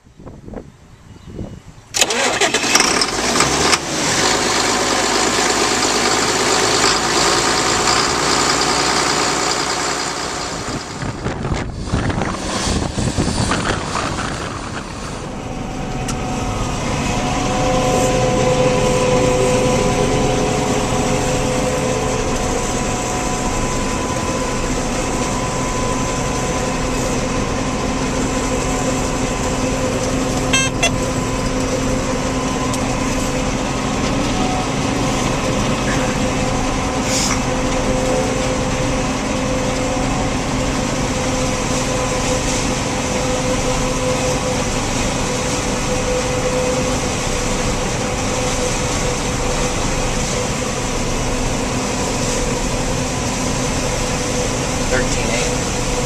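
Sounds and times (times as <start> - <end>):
diesel machinery running: 1.8 - 56.0
high machine whine: 4.5 - 56.0.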